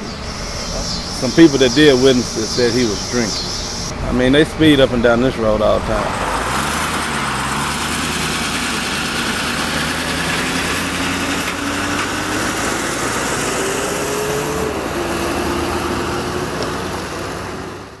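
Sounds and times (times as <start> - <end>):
truck engine pulling away: 0.0 - 18.0.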